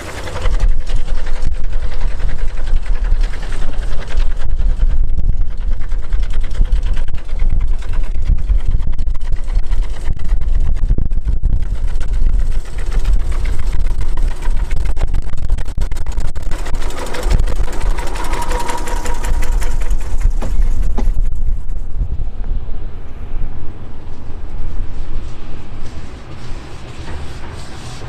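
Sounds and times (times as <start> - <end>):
diesel locomotive engine chugging: 0.0 - 28.0
steady whine: 0.0 - 28.0.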